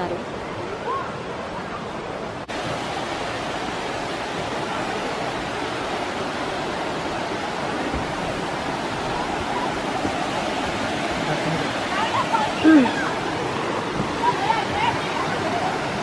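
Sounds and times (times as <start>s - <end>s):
river rapids rushing over rocks: 0.2s - 16.0s.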